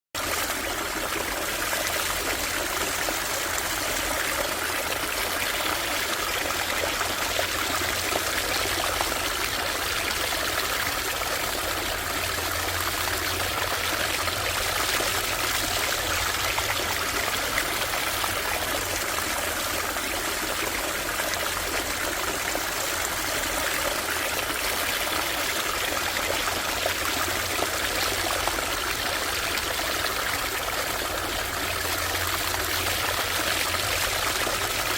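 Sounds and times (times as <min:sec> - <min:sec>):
creek water trickling: 0:00.2 - 0:34.9.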